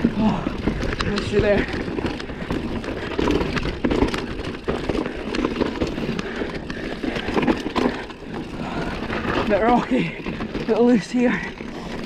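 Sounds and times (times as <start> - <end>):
bike clicks and knocks: 0.0 - 12.0
bike tyres churning through dirt: 0.0 - 12.0.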